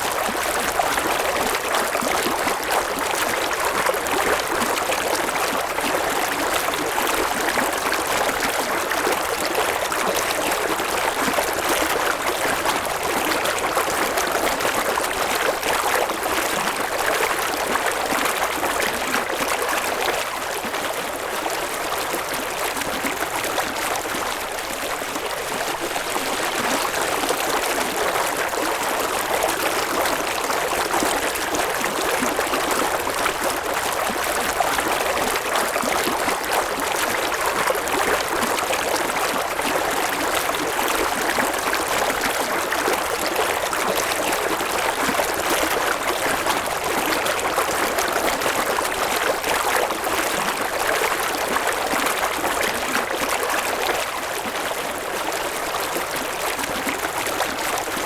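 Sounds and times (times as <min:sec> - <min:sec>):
river babbling over stones: 0:00.2 - 0:58.0.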